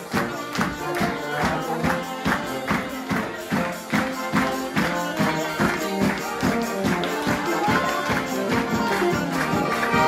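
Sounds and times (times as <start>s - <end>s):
live band playing folk dance music: 0.0s - 10.0s.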